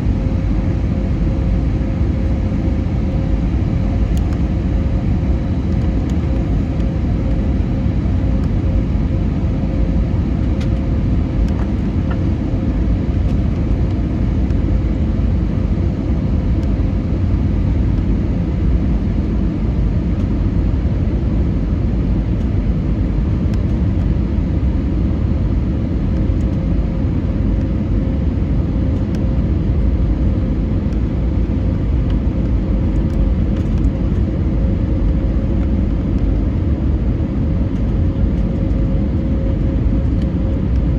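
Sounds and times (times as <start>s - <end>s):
aircraft cabin engine rumble: 0.0s - 40.9s
steady hum: 0.0s - 40.9s.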